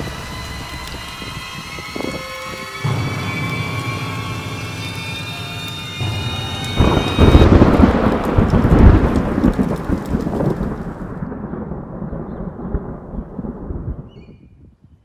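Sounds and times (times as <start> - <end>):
thunderclap and rolling rumble: 0.0 - 15.0.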